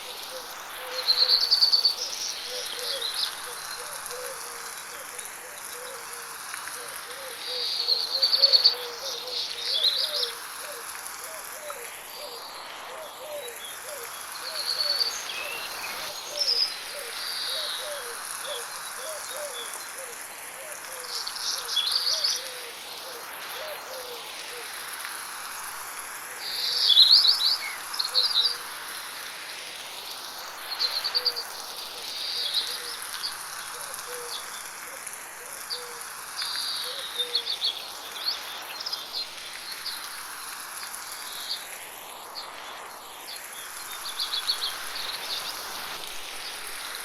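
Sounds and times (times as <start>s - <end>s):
light rain hiss: 0.0s - 47.0s.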